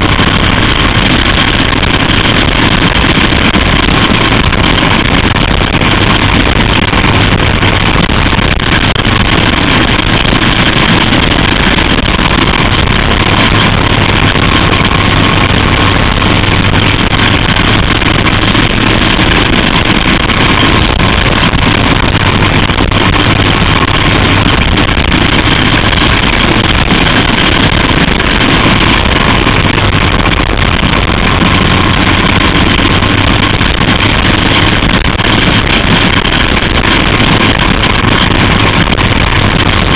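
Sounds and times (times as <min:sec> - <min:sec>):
rushing wind noise: 0:00.0 - 0:39.9
small racing engine running hard: 0:00.0 - 0:39.9.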